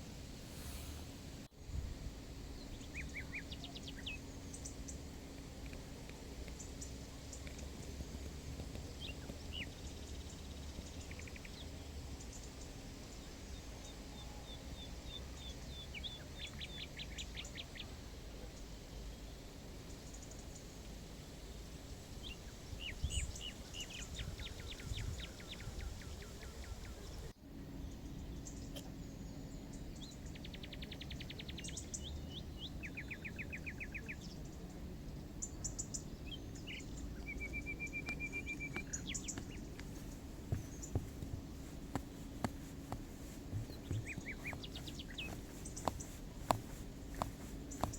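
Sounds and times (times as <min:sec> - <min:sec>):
faint low hum: 0:00.0 - 0:47.9
small songbirds singing: 0:02.3 - 0:47.9.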